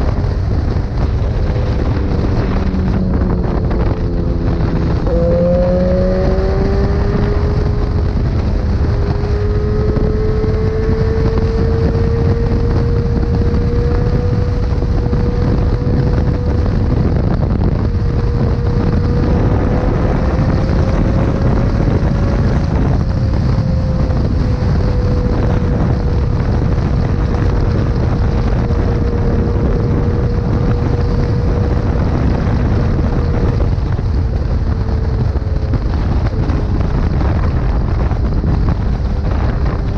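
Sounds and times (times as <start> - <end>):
motorcycle engine at high revs: 0.0 - 39.9
wind rush on microphone: 0.0 - 39.9.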